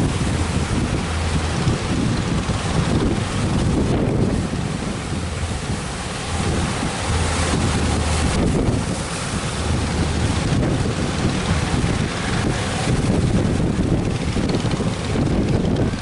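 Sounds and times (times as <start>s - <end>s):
ocean surf rolling in: 0.0s - 16.0s
wind buffeting microphone: 0.0s - 16.0s.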